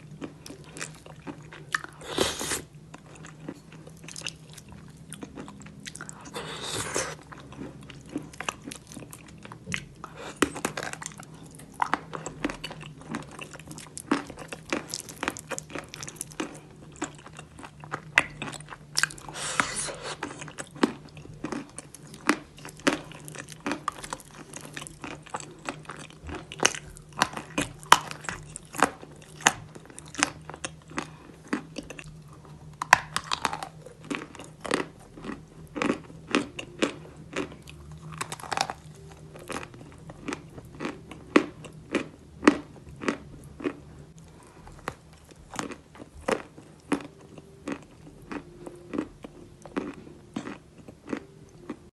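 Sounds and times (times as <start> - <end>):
crunchy chewing: 0.0 - 51.8.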